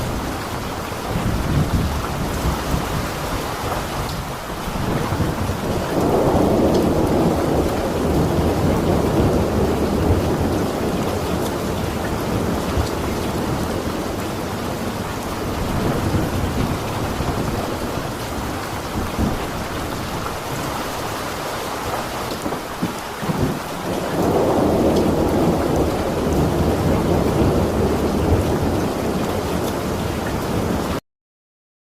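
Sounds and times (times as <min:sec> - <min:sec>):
thunder rolling: 0:00.0 - 0:21.2, 0:21.8 - 0:31.0
steady rain: 0:00.0 - 0:31.0.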